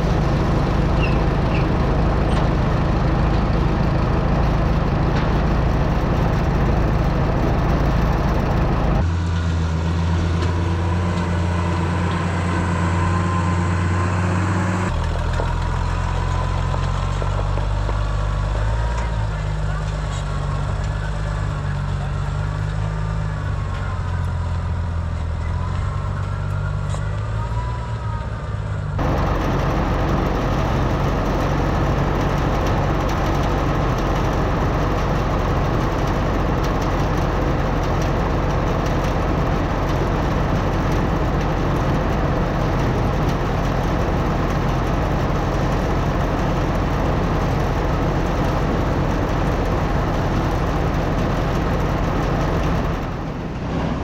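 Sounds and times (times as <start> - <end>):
engine driving machinery: 0.0 - 54.0
tractor engine running: 0.0 - 54.0.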